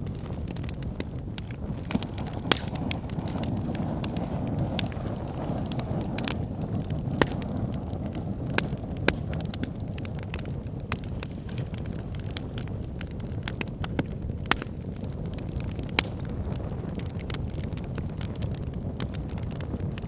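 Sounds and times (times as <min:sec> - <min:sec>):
burning wood crackling: 0:00.0 - 0:20.0
rush of flame: 0:00.0 - 0:20.0
sharp pops of fire: 0:00.0 - 0:20.0.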